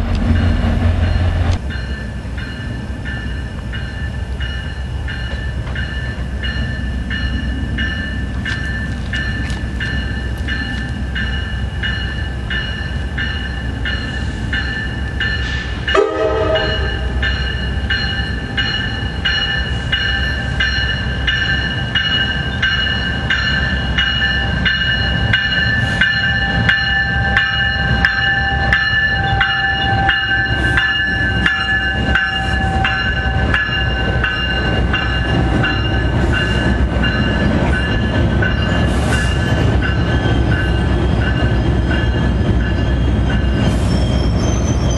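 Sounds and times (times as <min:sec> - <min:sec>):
train rumbling past: 0:00.0 - 0:44.9
high-pitched ringing tones: 0:00.4 - 0:44.9.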